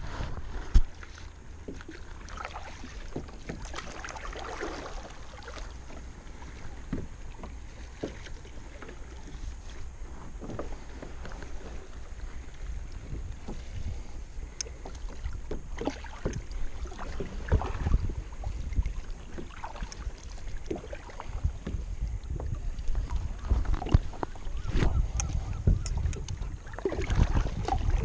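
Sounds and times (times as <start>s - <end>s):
low wind rumble on microphone: 0.0s - 1.9s, 5.8s - 28.0s
kayak paddle splashing: 0.0s - 28.0s.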